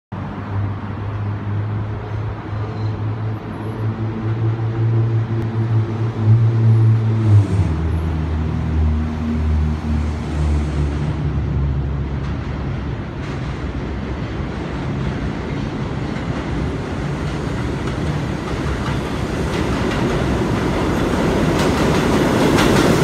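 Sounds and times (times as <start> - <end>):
road traffic: 0.1 - 23.0.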